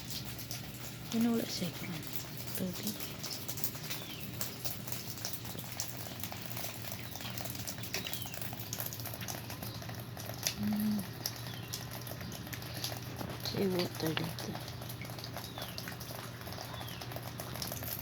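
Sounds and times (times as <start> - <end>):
freezing rain pattering on ice: 0.0 - 18.0.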